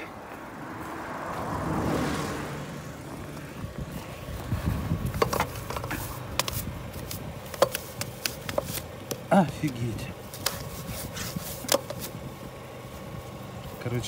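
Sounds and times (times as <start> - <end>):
low steady rumble: 0.1 - 14.0.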